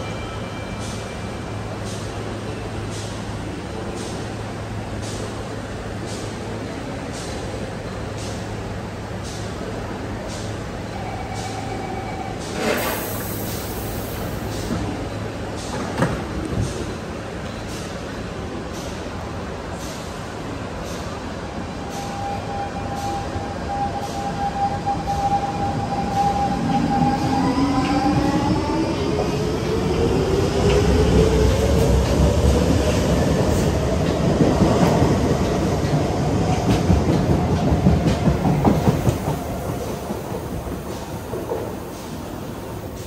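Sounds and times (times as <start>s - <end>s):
wheels rumbling on rail: 0.0s - 43.0s.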